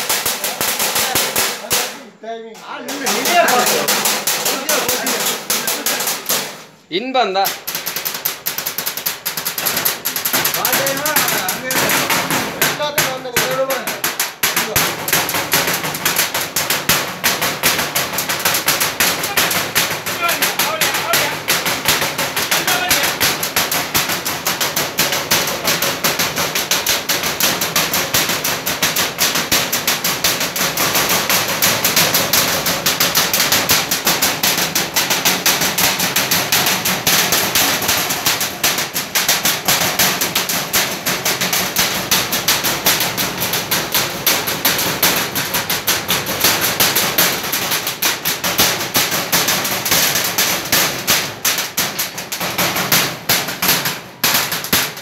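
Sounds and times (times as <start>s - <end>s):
rapid sharp cracks: 0.0s - 55.0s.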